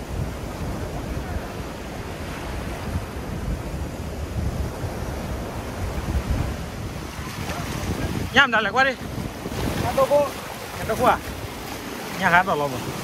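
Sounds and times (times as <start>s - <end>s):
waves washing onto sandy shore: 0.0s - 13.0s
wind buffeting microphone: 0.0s - 13.0s.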